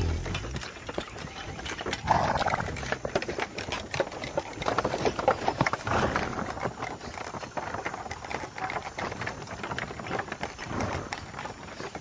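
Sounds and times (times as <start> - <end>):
horse tearing and chewing grass: 0.0 - 12.0.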